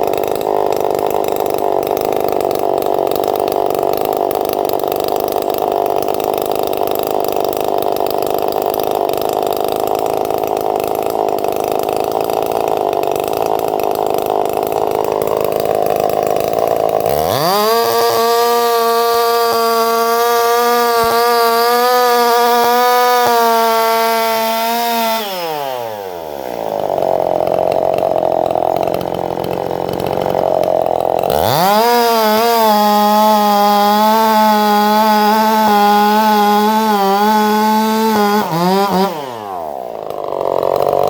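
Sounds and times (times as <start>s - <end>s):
chainsaw cutting and revving: 0.0s - 41.0s.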